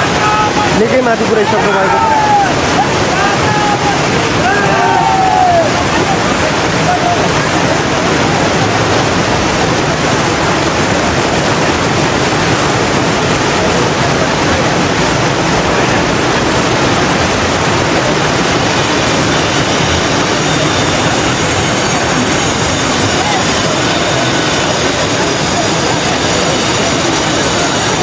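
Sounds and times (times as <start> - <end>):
fast river rushing over boulders: 0.0 - 28.0.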